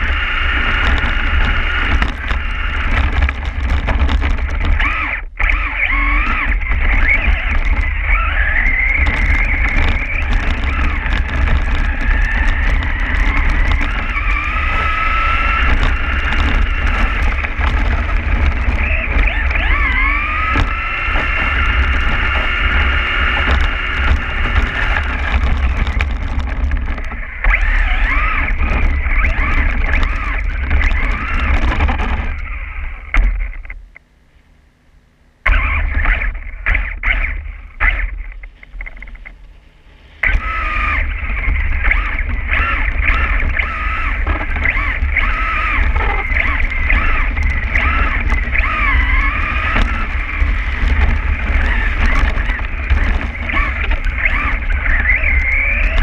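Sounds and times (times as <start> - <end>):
wind and tyres on slush: 0.0 - 33.7, 35.5 - 56.0
electric motor and gears whining: 0.0 - 56.0.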